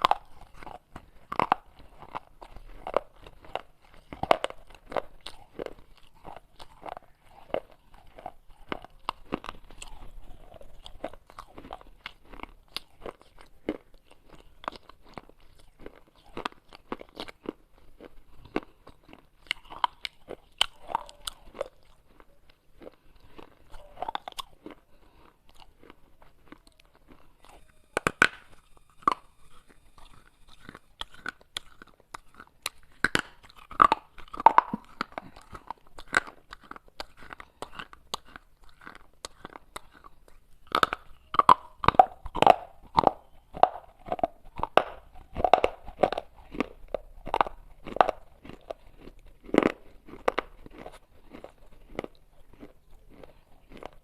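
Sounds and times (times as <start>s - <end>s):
clay pot pieces crunching: 0.0s - 54.0s.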